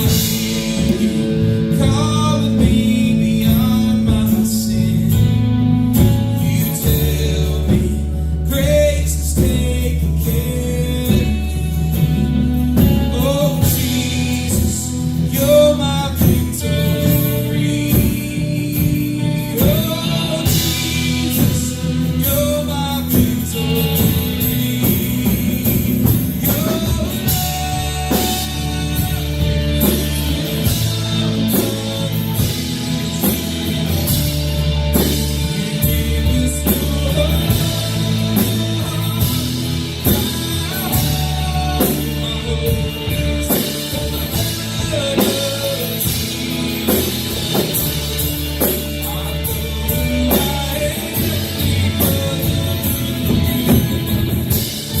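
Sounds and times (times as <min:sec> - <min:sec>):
drum kit: 0:00.0 - 0:55.0
guitar: 0:00.0 - 0:55.0
person singing lead vocal: 0:00.0 - 0:55.0.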